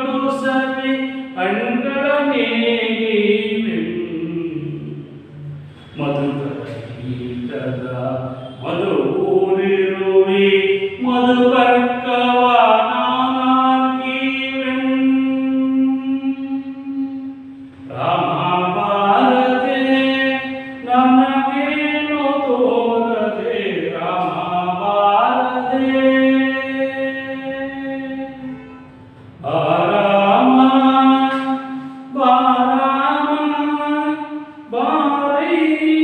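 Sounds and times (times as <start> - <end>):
man singing unaccompanied: 0.0 - 36.0.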